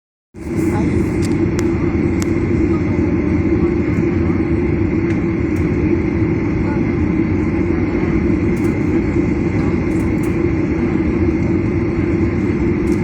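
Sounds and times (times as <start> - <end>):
airplane engines rumbling: 0.4 - 13.0.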